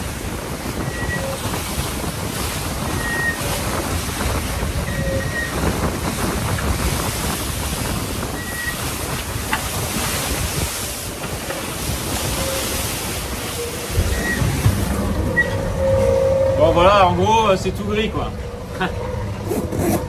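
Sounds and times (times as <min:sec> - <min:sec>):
wind rushing: 0:00.0 - 0:19.5
waves breaking: 0:00.0 - 0:20.0
wind buffeting microphone: 0:00.0 - 0:20.0.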